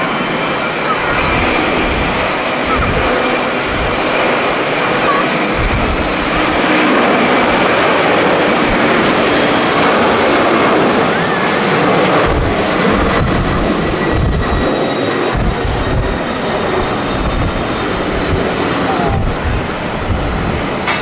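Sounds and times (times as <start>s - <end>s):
jet engines running: 0.0s - 21.0s
wind buffeting microphone: 0.0s - 21.0s.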